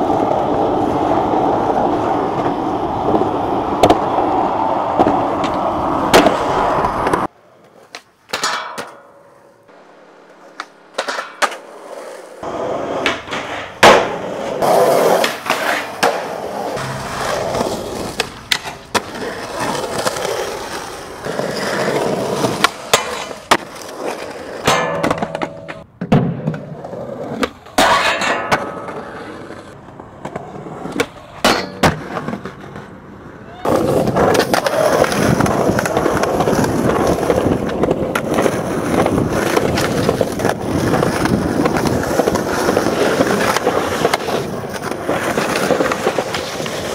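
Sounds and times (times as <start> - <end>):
skateboard wheels rolling on pavement: 0.0 - 46.9
skateboard clacks and bangs: 1.9 - 7.3, 10.5 - 11.8, 12.4 - 33.0, 33.6 - 46.9.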